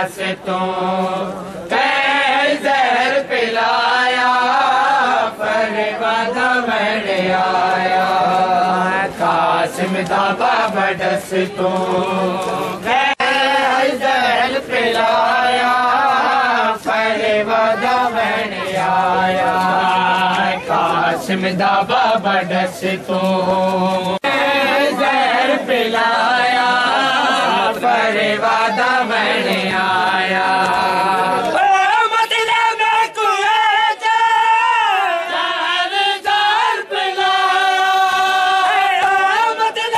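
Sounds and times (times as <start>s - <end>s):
crowd of men chanting: 0.0s - 39.9s.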